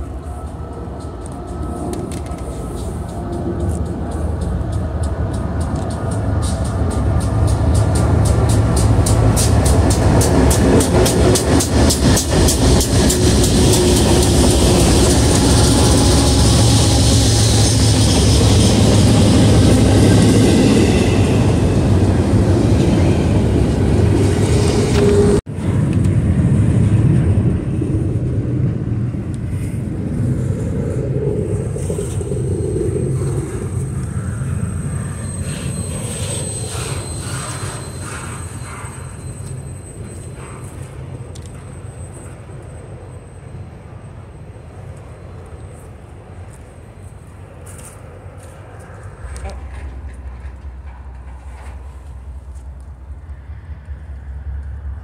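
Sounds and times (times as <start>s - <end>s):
diesel locomotive engines: 0.0s - 55.0s
wheels rolling on rails: 0.0s - 55.0s.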